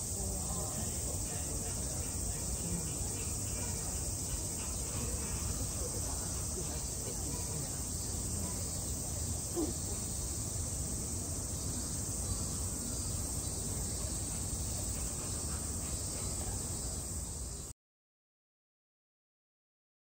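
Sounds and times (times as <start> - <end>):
high-pitched insect drone: 0.0 - 17.7.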